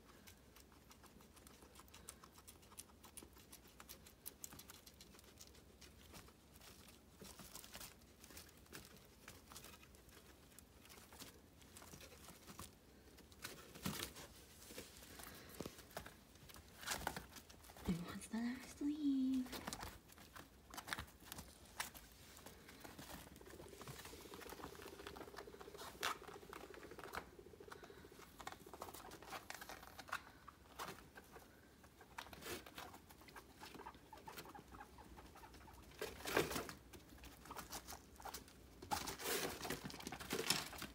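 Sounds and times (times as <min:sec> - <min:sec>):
guinea pigs pattering and rustling: 0:00.0 - 0:40.9.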